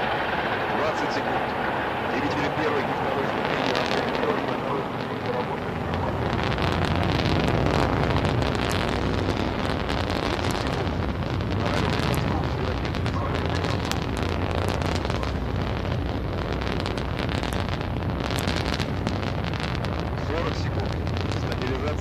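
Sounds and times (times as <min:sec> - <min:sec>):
rocket engines roaring: 0:00.0 - 0:22.0.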